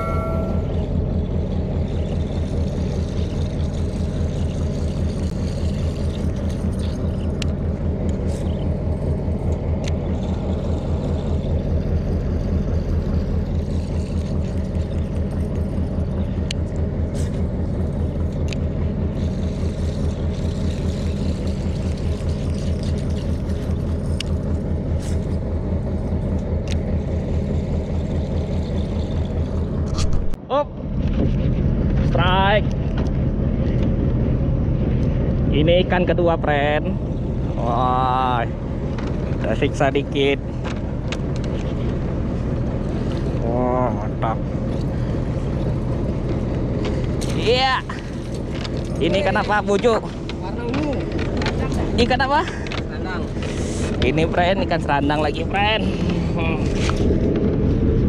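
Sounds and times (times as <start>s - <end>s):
outboard boat motor running: 0.0s - 58.0s.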